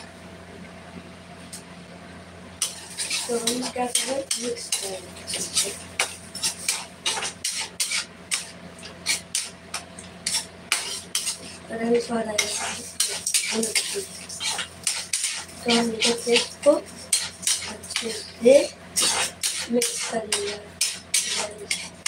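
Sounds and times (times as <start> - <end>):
metal spoon stirring in pan: 2.6 - 22.0.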